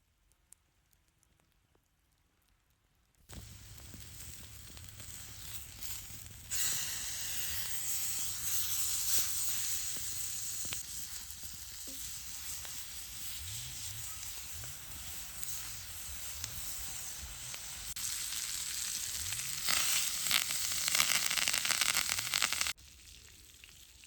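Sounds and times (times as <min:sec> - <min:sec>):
food sizzling over campfire: 0:03.3 - 0:24.0.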